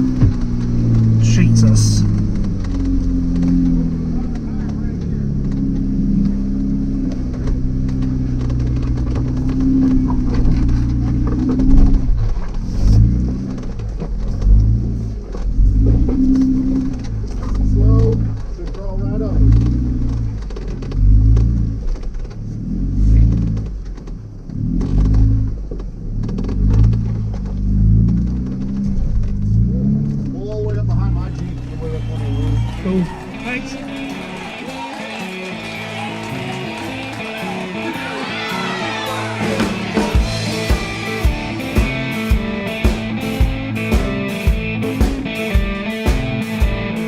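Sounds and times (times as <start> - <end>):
off-road vehicle engine at low revs: 0.0 - 34.6, 38.7 - 47.0.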